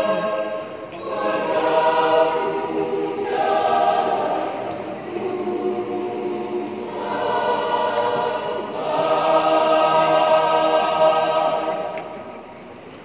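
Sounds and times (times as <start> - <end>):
choir singing held chords: 0.0 - 12.9.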